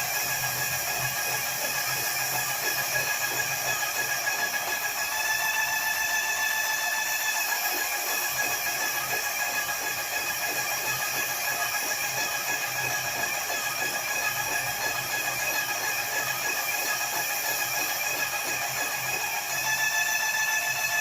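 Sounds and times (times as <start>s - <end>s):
paint sprayer hissing: 0.0s - 21.0s.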